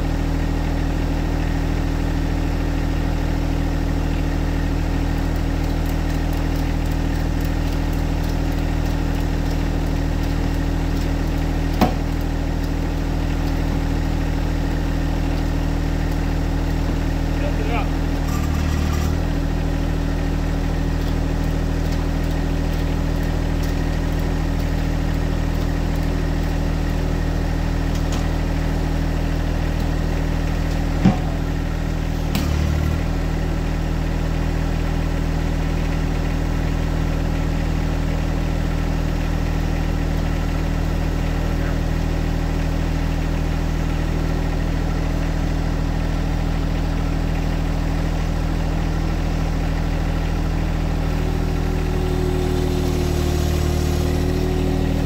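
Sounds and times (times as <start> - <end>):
diesel tractor engine idling: 0.0 - 55.0.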